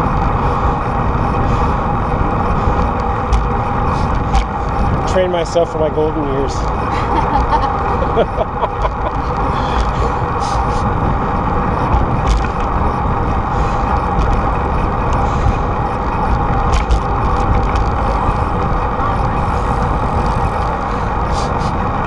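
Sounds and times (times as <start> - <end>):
freeway traffic drone: 0.0 - 22.0
wind on microphone: 0.0 - 22.0.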